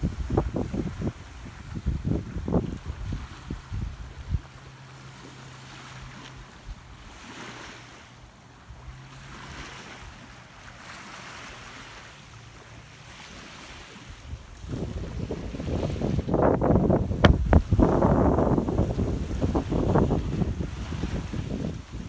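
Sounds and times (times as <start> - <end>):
waves lapping on shore: 0.0 - 22.0
wind over lake: 0.0 - 22.0.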